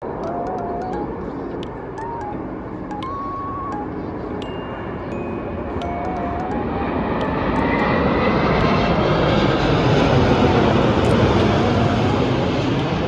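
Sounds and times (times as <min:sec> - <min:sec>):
airplane engine rumble: 0:00.0 - 0:13.0.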